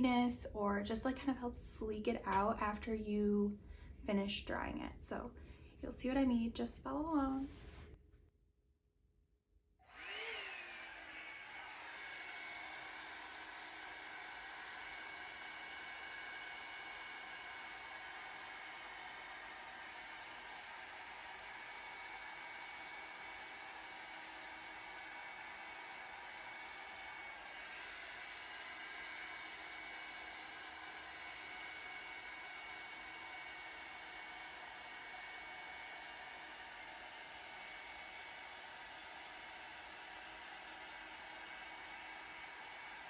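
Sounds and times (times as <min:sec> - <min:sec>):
hair dryer running: 0:01.0 - 0:03.2, 0:09.9 - 0:43.0.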